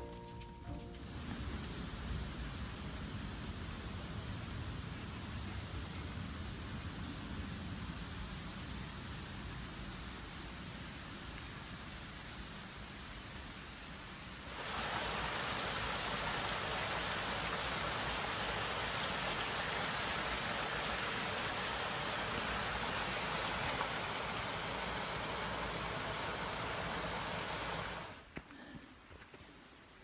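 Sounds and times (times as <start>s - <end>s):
creek rushing over a cascade: 1.0s - 28.3s.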